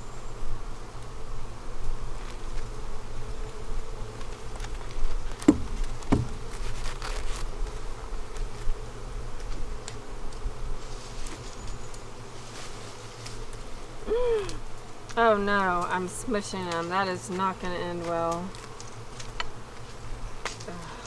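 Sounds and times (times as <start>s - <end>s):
bees buzzing past close: 0.1s - 21.0s
honeybees buzzing: 0.1s - 21.0s.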